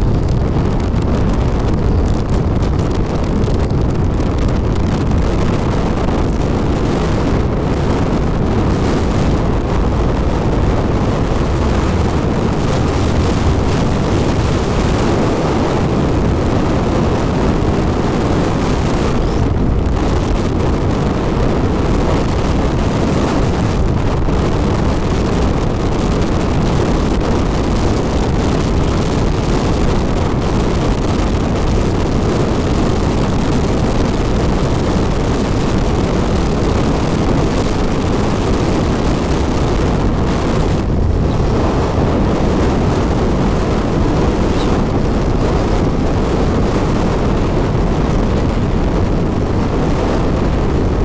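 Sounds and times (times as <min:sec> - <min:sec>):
wind rushing over microphone: 0:00.0 - 0:51.0.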